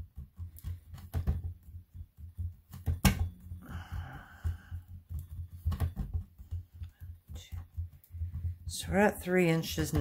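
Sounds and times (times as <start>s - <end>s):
hands thumping and tapping clay: 0.0s - 10.0s.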